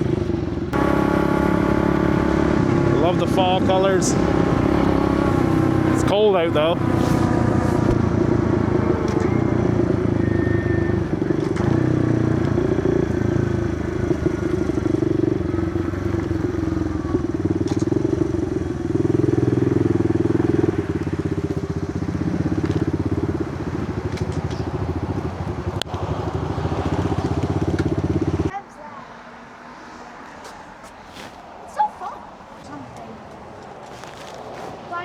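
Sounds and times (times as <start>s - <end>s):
small motorbike engine revving: 0.0s - 28.5s.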